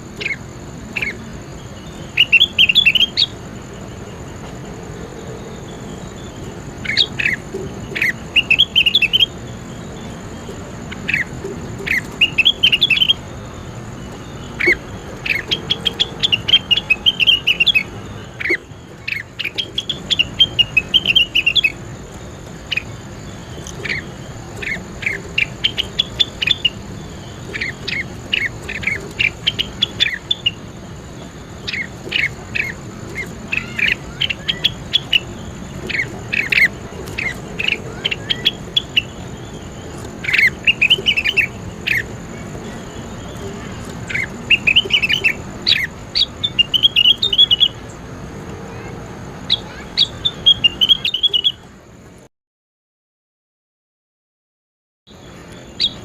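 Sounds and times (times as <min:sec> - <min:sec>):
songbird chirping and trilling: 0:00.0 - 0:52.2, 0:55.1 - 0:56.0.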